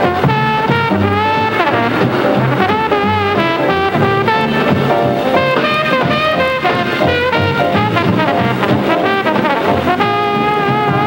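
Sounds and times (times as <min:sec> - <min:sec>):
brass instruments playing melody: 0:00.0 - 0:11.0.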